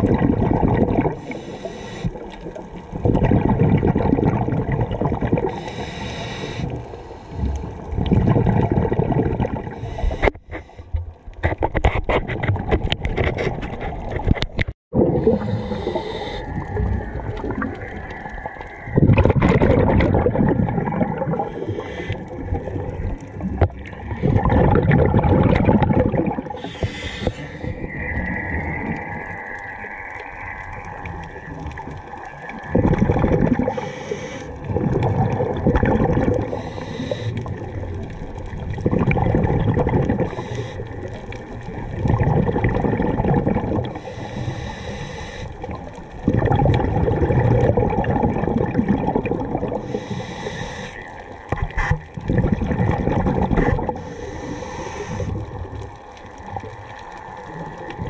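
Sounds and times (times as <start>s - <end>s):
exhaled bubbles burbling: 0.0s - 1.4s, 2.0s - 5.8s, 6.6s - 10.4s, 11.4s - 44.6s, 45.5s - 58.0s.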